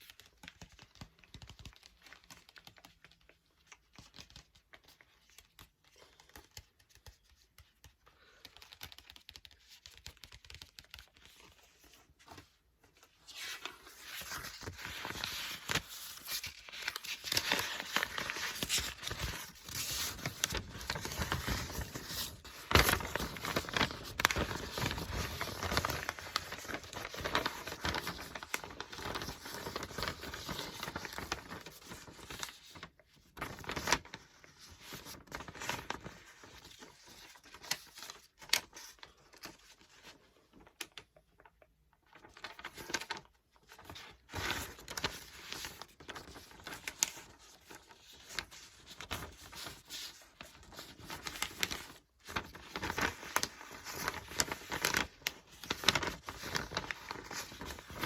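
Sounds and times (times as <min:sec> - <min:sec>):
book pages turning: 0:00.0 - 0:39.9, 0:42.2 - 0:58.0.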